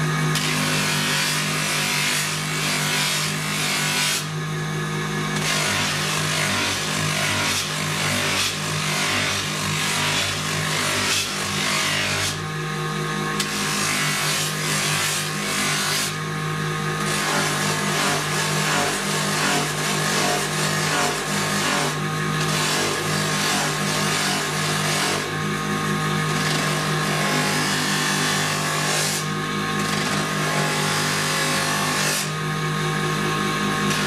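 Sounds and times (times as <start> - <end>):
electric motor humming: 0.0 - 34.0.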